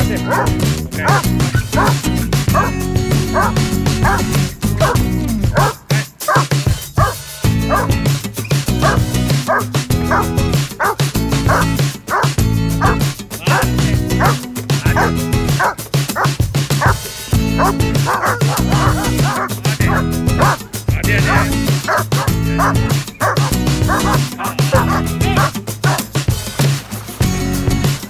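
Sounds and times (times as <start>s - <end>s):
dog barking: 0.0s - 8.0s, 8.8s - 20.6s, 21.2s - 26.1s
background music with bass: 0.0s - 28.0s.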